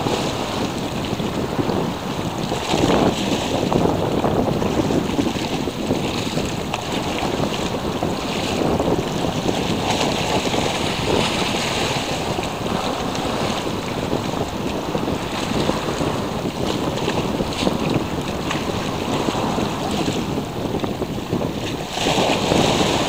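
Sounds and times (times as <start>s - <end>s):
sea waves: 0.0s - 23.0s
wind blowing across microphone: 0.0s - 23.0s.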